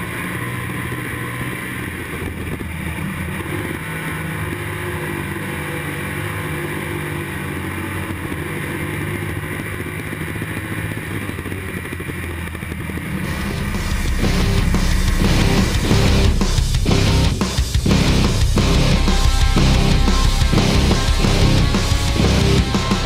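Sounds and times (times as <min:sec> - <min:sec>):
race car engine running: 0:00.0 - 0:23.0.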